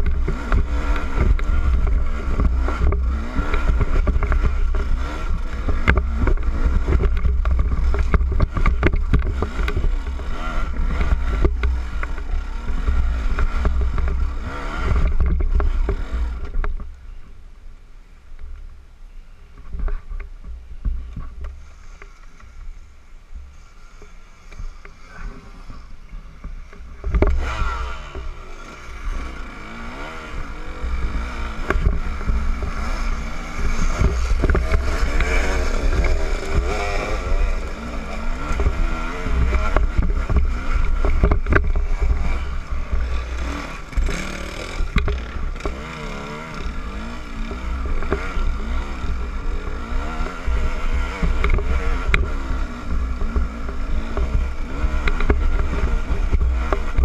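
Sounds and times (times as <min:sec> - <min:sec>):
dirt bike engine revving: 0:00.0 - 0:16.6, 0:23.5 - 0:57.0.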